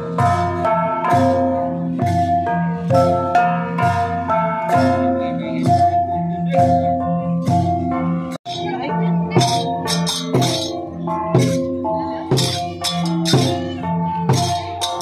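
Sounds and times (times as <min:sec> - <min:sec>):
gong ensemble playing: 0:00.0 - 0:15.0.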